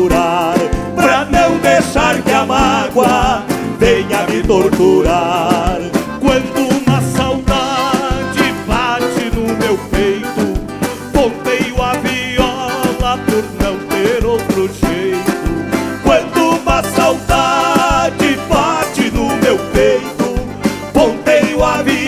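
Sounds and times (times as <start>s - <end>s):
acoustic guitars: 0.0s - 22.0s
bass: 0.0s - 22.0s
man singing with vibrato: 0.0s - 22.0s
steady drum beat: 0.0s - 22.0s.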